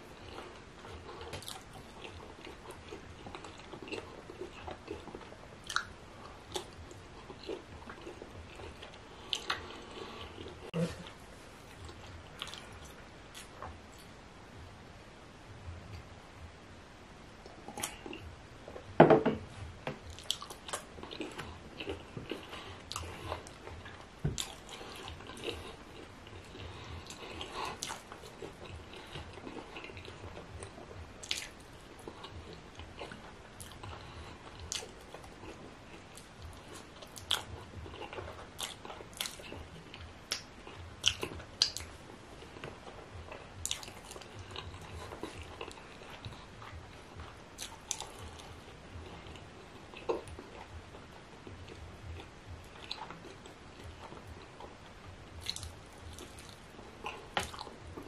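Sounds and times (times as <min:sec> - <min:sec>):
person chewing wetly: 0:00.2 - 0:11.2, 0:11.8 - 0:14.1, 0:17.7 - 0:18.3, 0:20.0 - 0:58.0.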